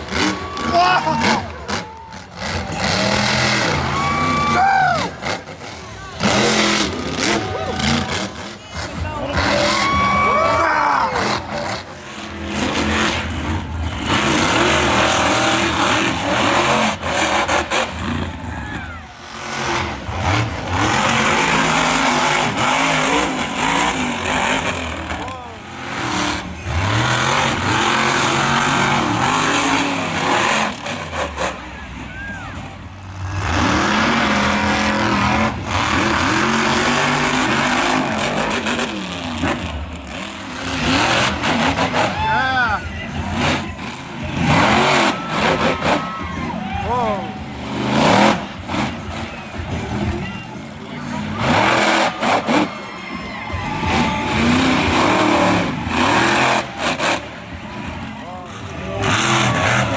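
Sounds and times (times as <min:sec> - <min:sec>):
truck engine revving hard: 0:00.0 - 0:59.9.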